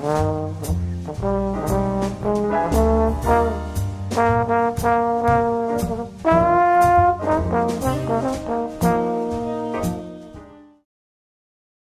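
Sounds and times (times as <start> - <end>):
jazzy brass music: 0.0 - 10.8.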